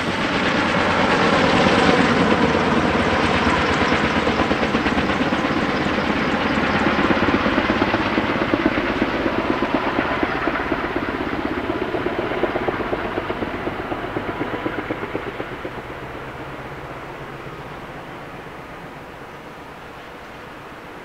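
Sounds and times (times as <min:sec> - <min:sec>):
helicopter rotors beating: 0:00.0 - 0:21.0.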